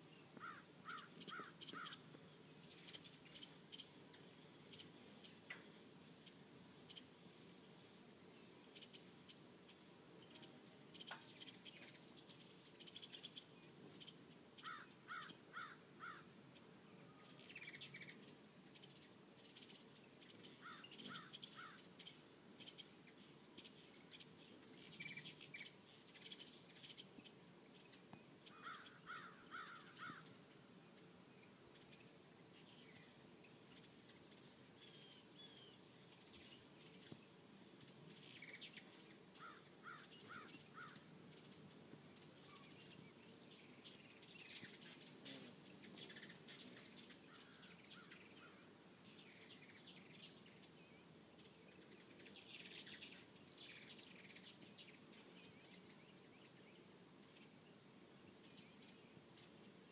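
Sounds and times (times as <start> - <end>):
faint birds chirping: 0.0 - 59.9
faint steady hiss: 0.0 - 59.9.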